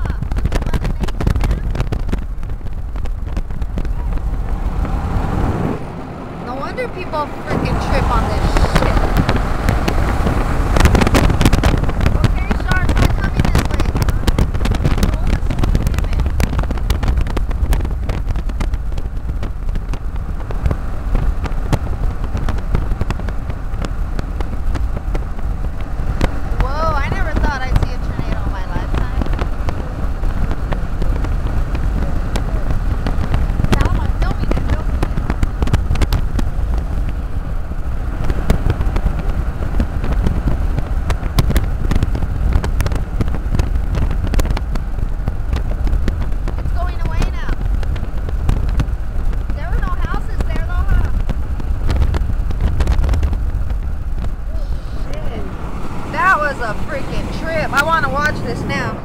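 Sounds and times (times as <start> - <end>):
road rumble inside car: 0.0 - 59.0
wind noise on microphone: 0.0 - 59.0.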